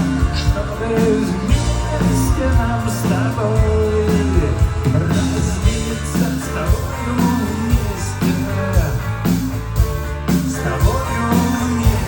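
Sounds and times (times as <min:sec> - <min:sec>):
instrumental rock music: 0:00.0 - 0:12.0.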